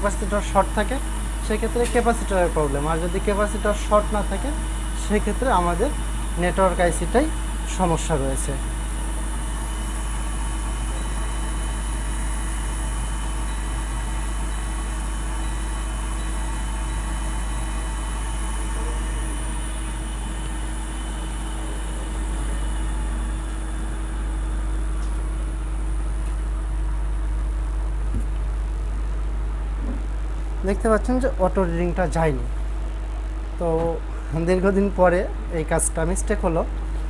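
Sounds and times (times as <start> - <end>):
electric fan running: 0.0 - 37.0.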